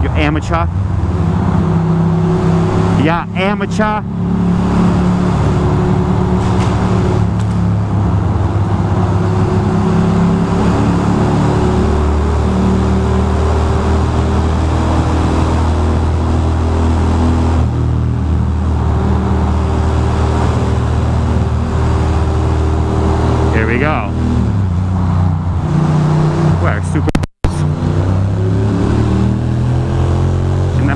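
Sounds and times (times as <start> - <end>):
motorcycle engine cruising: 0.0 - 30.9
wind and road noise: 0.0 - 30.9.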